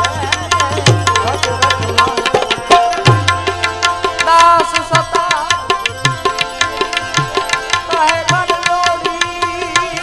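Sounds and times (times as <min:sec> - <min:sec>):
held melody: 0:00.0 - 0:10.0
tabla strokes: 0:00.0 - 0:10.0.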